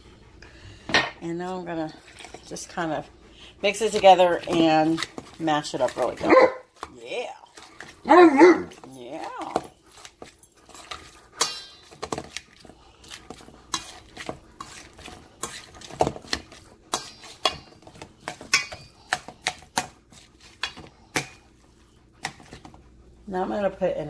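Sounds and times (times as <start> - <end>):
soft squishing: 1.8 - 23.4.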